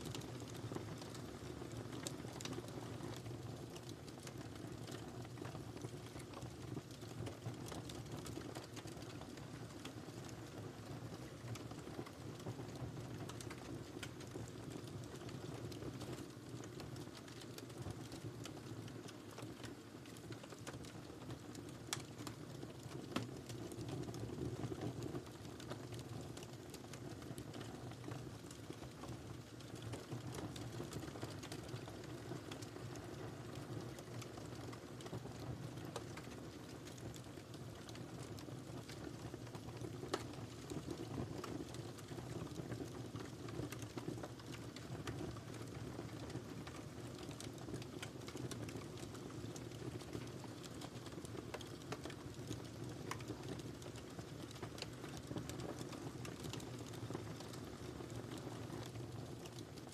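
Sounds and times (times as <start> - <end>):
low rumble of burning: 0.0 - 59.9
wood fire crackling: 0.0 - 59.9.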